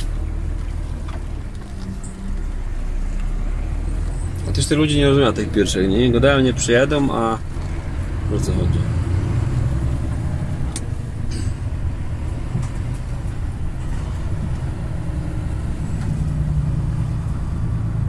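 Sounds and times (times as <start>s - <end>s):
truck engine drone in cab: 0.0s - 18.0s.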